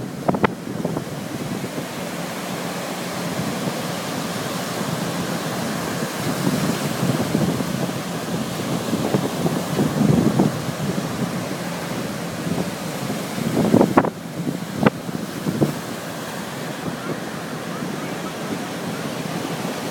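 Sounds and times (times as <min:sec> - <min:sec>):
surf breaking on sandy beach: 0:00.0 - 0:19.9
wind rumbling on microphone: 0:00.0 - 0:19.9.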